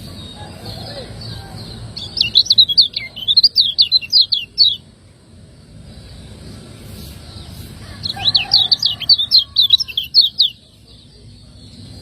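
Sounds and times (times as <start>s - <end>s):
bird sharp sweeping chirps: 0.0s - 4.9s, 5.8s - 12.0s.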